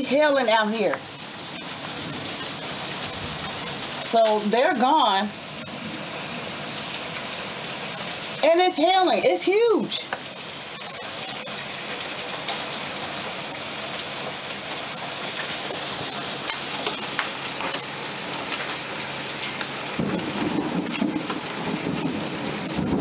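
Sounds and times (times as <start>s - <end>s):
hailstones striking: 0.0s - 23.0s
heavy rain hissing: 0.0s - 23.0s
low rumble: 0.1s - 9.3s, 10.1s - 23.0s.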